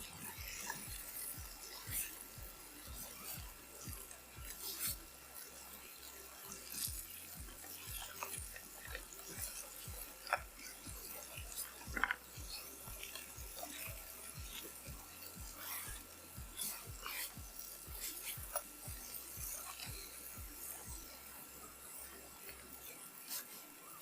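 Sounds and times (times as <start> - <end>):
background music with low beat: 0.0 - 24.0
faint scraping and rubbing: 0.0 - 24.0.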